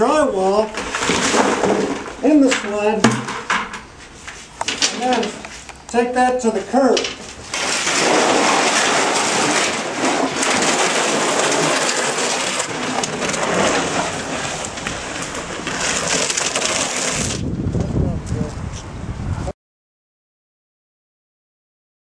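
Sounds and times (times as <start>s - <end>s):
sled scraping over concrete: 0.0s - 18.7s.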